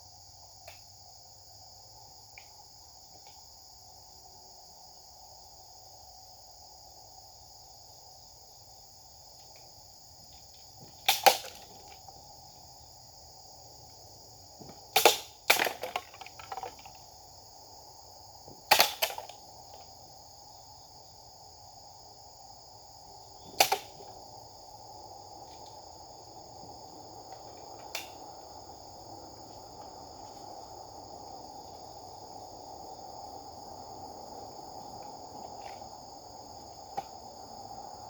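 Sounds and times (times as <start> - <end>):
insects chirping: 0.0 - 38.0.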